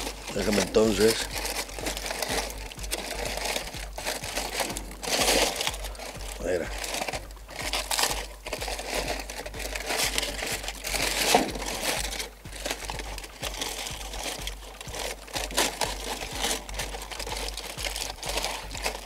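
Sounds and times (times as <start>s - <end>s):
aluminium foil crinkling: 0.0s - 19.0s.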